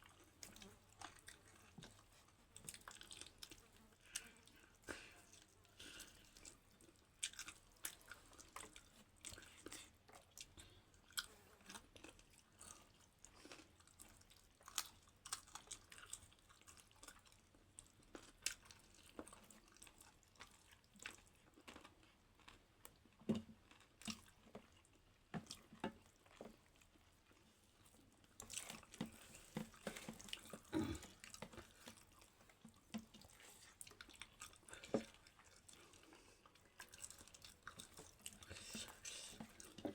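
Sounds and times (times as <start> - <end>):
close-up wet chewing: 0.0 - 39.9.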